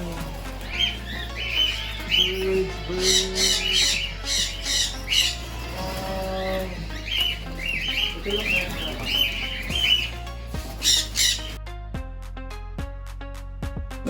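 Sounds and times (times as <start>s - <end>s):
loud harsh bird squawk: 0.0s - 11.6s.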